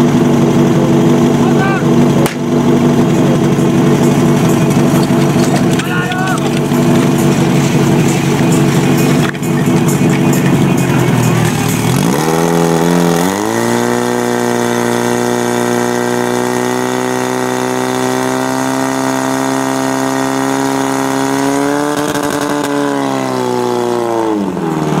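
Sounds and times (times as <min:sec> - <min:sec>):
fire pump engine revving: 0:00.0 - 0:25.0.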